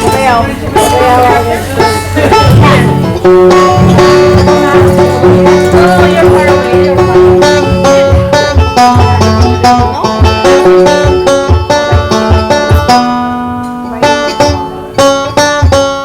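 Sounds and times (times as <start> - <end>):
plucked string instruments: 0.0 - 16.0.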